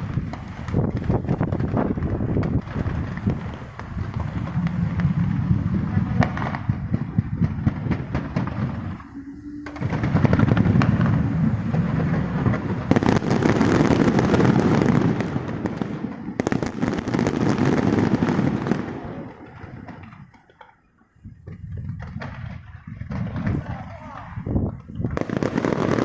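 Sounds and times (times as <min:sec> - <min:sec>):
fireworks bursts and crackling: 0:00.0 - 0:26.0.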